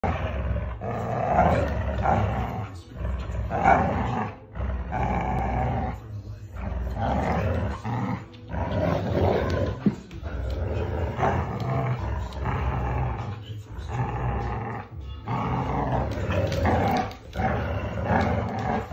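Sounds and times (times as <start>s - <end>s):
dogs growling in play: 0.0s - 18.9s.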